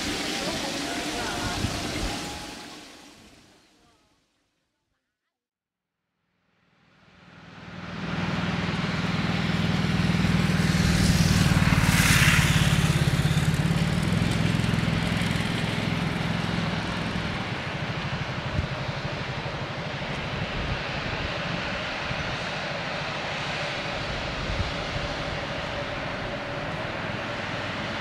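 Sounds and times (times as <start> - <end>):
vehicle engine humming: 0.0 - 3.7, 7.0 - 28.0
road noise: 0.0 - 4.1, 6.6 - 28.0.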